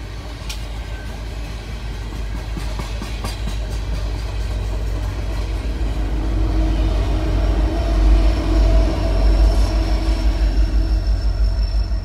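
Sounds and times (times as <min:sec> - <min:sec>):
diesel locomotive engines rumbling: 0:00.0 - 0:12.0
train wheels rolling on rails: 0:00.0 - 0:12.0.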